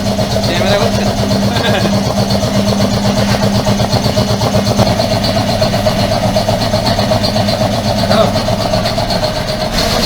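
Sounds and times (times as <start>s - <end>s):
air compressor pulsing: 0.0s - 10.0s.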